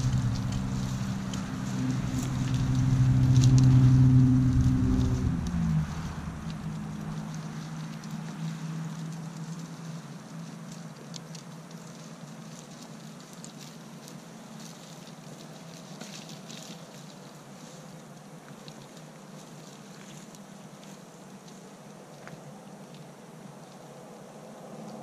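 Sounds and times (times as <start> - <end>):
vehicle engine humming: 0.0 - 22.7
goats stripping leaves: 0.0 - 25.0.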